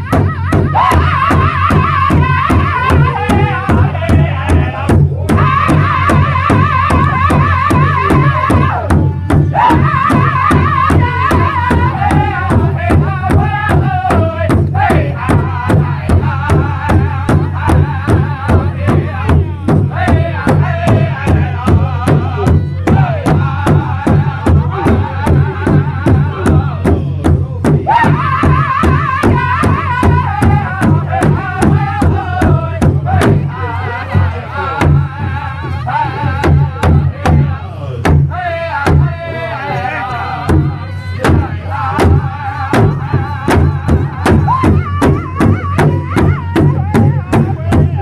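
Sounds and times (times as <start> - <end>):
group singing in high unison: 0.0 - 48.0
large hide drum beating: 0.0 - 48.0.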